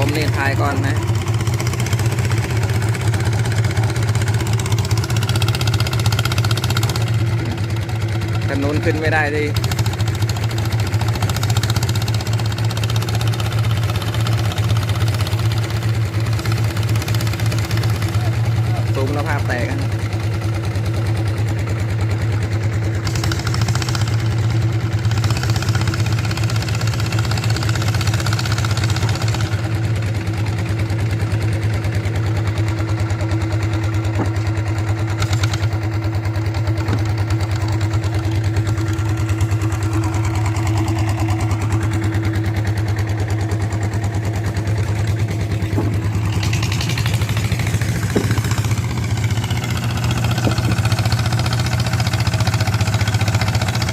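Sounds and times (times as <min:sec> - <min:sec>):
single-cylinder diesel engine running: 0:00.0 - 0:53.9.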